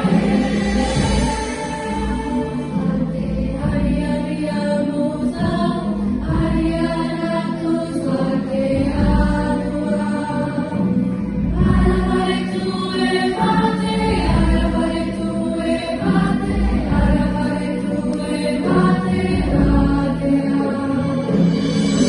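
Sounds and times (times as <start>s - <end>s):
choir singing with orchestra: 0.0s - 22.0s.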